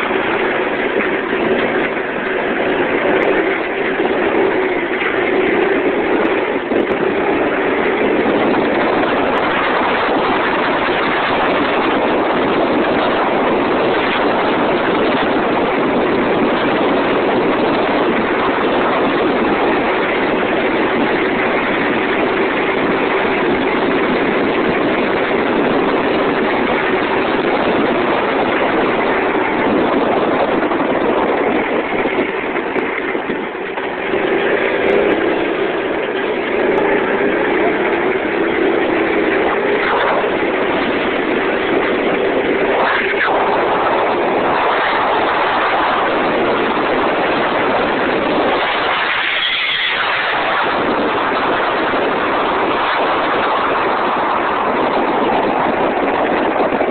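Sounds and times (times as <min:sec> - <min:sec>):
go-kart engine running: 0:00.0 - 0:56.9.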